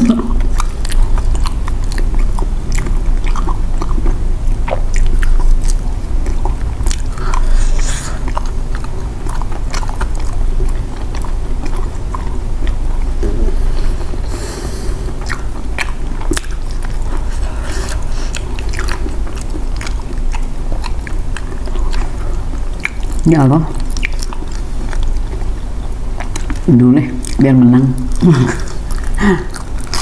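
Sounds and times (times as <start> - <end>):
wet chewing mouth clicks: 0.0 - 30.0.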